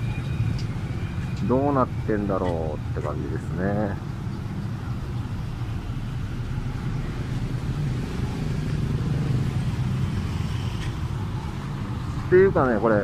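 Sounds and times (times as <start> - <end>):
street traffic: 0.0 - 13.0
vehicle engine rumbling: 0.0 - 13.0.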